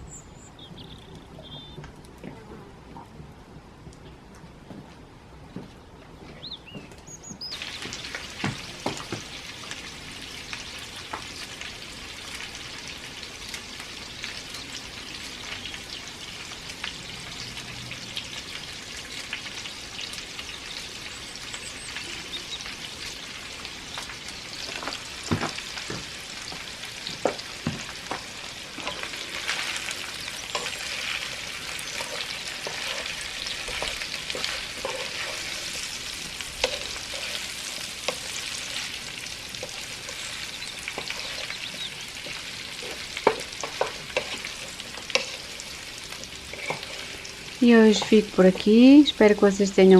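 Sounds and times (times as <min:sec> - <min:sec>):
potatoes sizzling in butter: 0:07.4 - 0:49.9.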